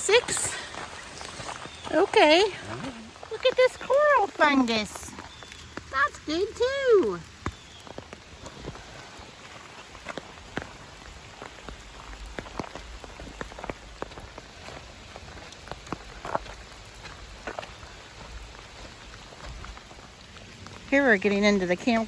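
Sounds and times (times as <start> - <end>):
light rain: 0.0 - 22.0
raindrops tapping: 0.0 - 22.0.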